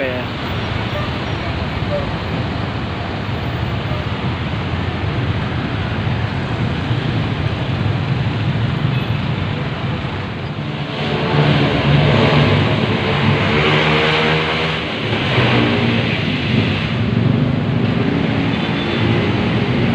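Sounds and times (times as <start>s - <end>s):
car and motorcycle engines: 0.0s - 19.9s
tyres on road: 0.0s - 19.9s.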